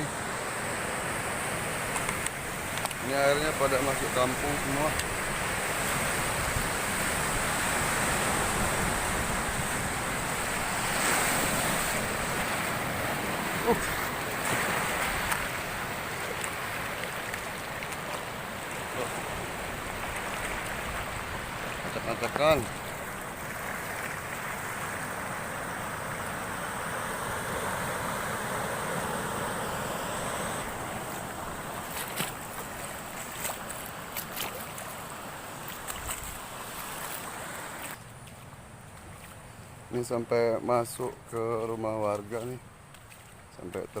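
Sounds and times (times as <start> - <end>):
sea surf: 0.0 - 38.2
waves and washing water: 0.0 - 44.0.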